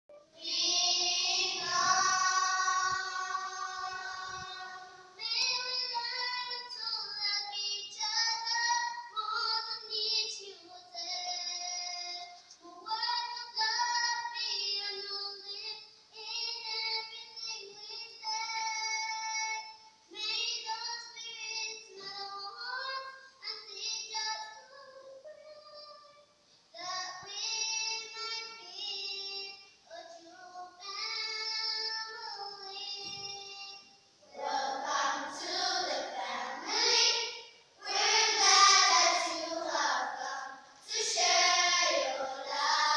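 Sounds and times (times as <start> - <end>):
girls singing together: 0.2 - 26.1, 26.8 - 42.9.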